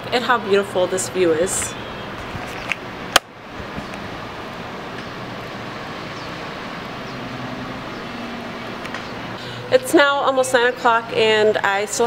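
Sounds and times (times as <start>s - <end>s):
outdoor background rush: 0.0s - 12.0s.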